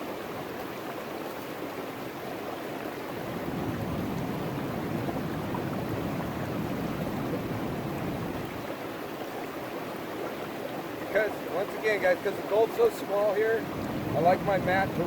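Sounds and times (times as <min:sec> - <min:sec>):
water rushing through sluice box: 0:00.0 - 0:15.0.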